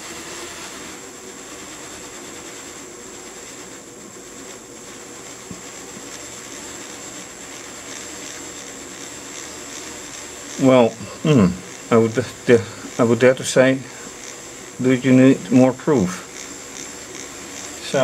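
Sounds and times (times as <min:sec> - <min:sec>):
high constant whine: 0:00.0 - 0:18.0
small electric motors running: 0:00.0 - 0:18.0.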